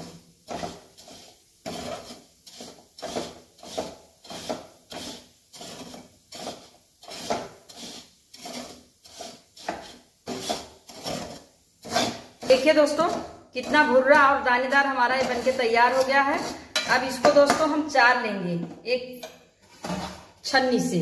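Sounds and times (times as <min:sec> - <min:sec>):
metal ladle scraping sugar: 0:00.0 - 0:17.7, 0:19.6 - 0:20.4.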